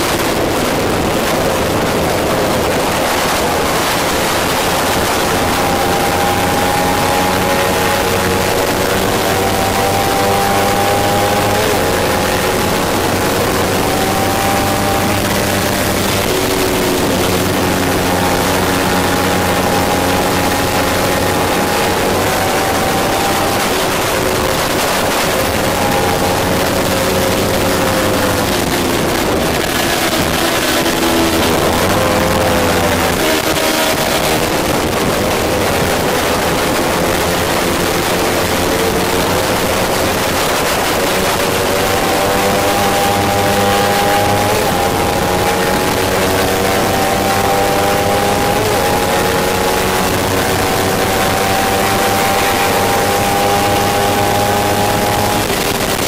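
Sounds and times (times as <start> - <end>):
heavy wind rush: 0.0 - 56.0
motorcycle engine revving: 0.0 - 56.0.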